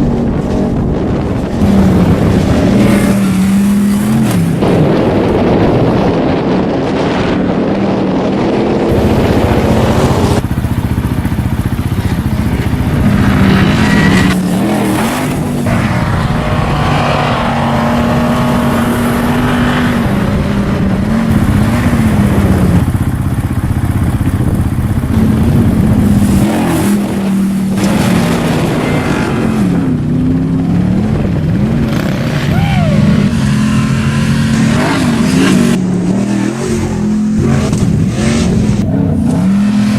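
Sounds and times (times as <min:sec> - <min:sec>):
pickup engine revving: 0:00.0 - 0:39.9.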